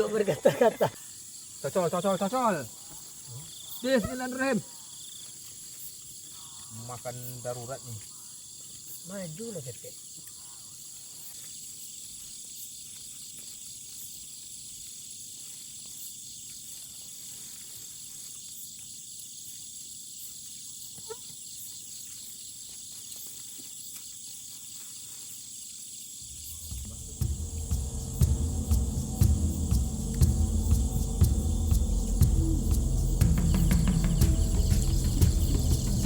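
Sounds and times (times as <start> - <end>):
insects buzzing and trilling: 0.0 - 36.0.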